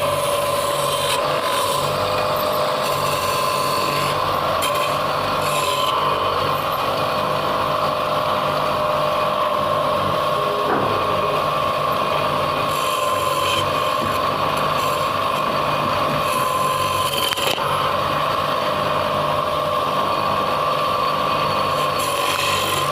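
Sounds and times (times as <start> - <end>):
woodworking machine whining: 0.0 - 22.9.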